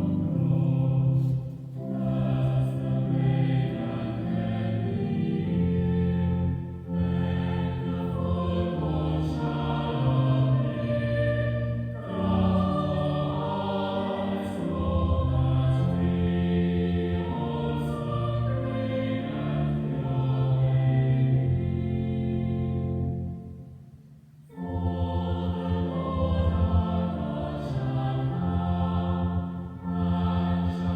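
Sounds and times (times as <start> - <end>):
choir singing a slow hymn: 0.0 - 30.9.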